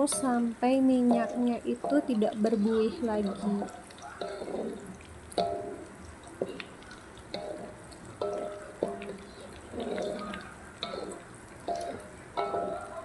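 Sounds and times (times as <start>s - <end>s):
oil bubbling and sizzling in a wok: 0.0s - 13.0s.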